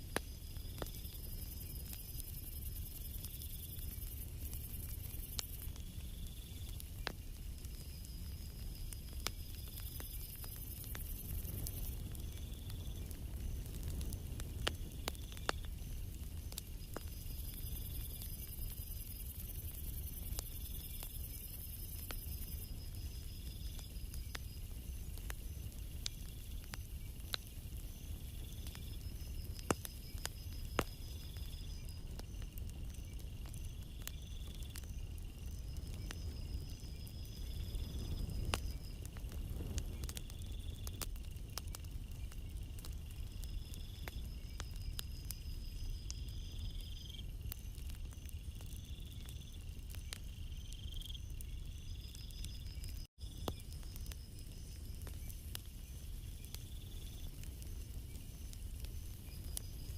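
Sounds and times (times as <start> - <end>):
insects chirping trills: 0.0 - 59.9.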